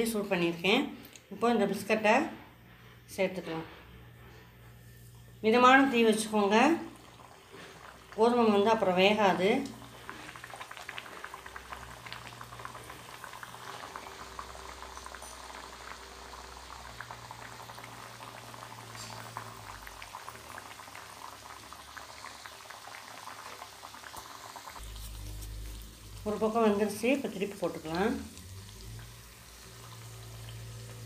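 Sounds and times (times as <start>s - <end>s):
oil bubbling and crackling: 6.1s - 31.0s.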